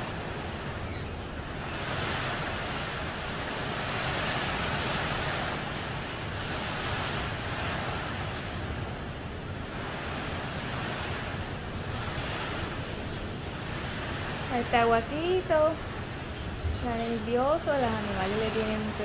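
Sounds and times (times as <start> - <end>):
gusting wind: 0.0 - 19.0
rain: 0.0 - 19.0.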